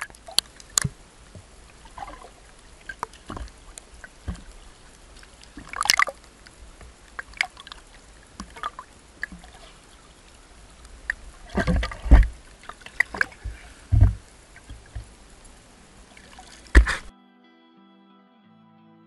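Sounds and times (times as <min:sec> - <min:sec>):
seawater sloshing and splashing: 0:00.0 - 0:17.1.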